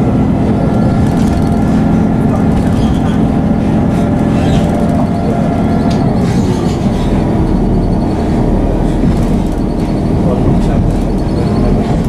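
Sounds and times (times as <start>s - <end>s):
diesel train drone: 0.0s - 12.0s
wheel-on-rail noise: 0.0s - 12.0s.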